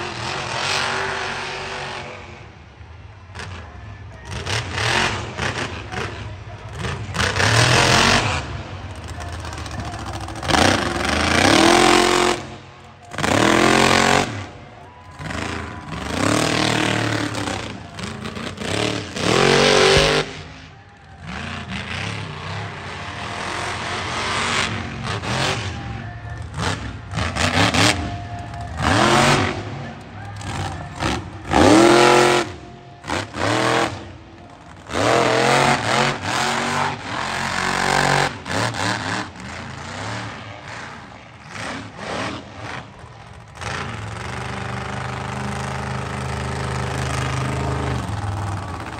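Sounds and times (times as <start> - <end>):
monster truck engine revving: 0.0 - 2.6, 3.2 - 48.9.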